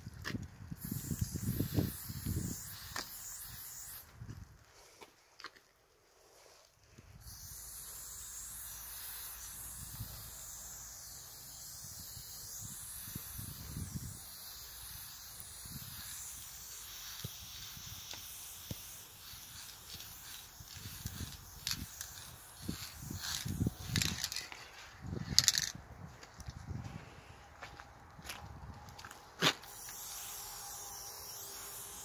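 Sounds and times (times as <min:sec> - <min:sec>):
spray paint can hissing: 0:00.0 - 0:05.0, 0:06.2 - 0:25.8, 0:29.3 - 0:32.0.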